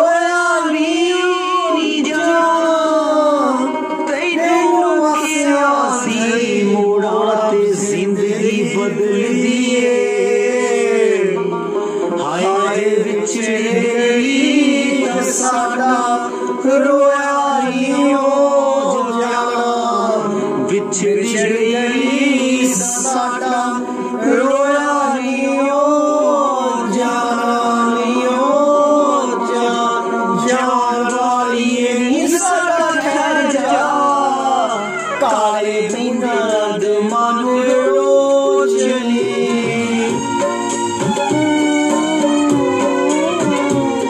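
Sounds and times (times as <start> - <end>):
man singing into microphone: 0.0 - 44.0.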